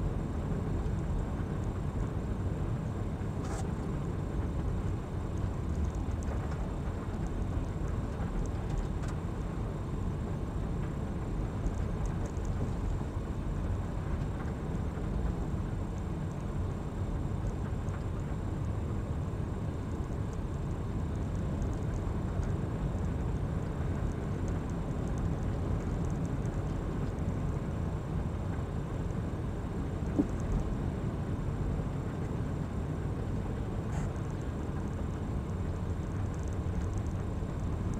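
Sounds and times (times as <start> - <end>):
car engine and tyres rumble: 0.0 - 37.9.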